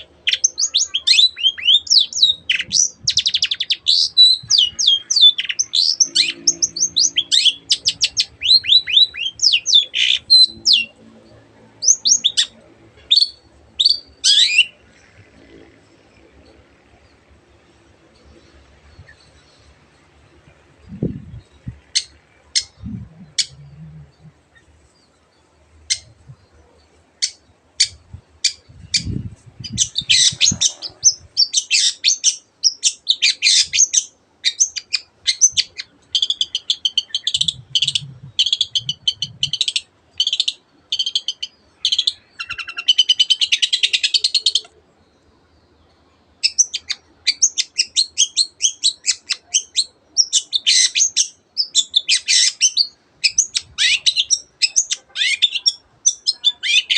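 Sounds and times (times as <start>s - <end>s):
bird singing with rapid trills: 0.0s - 56.9s.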